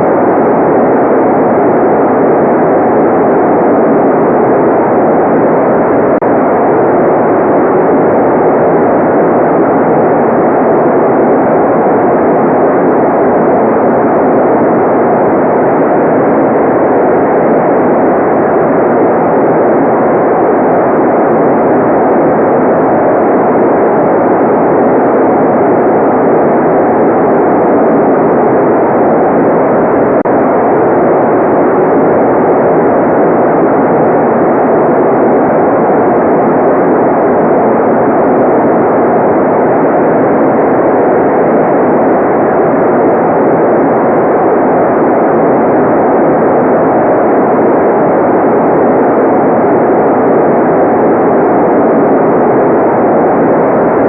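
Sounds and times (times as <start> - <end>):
steady white noise: 0.0 - 54.0.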